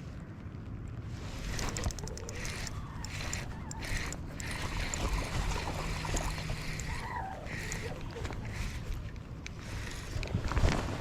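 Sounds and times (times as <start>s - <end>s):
water splashing against kayak: 1.3s - 11.0s.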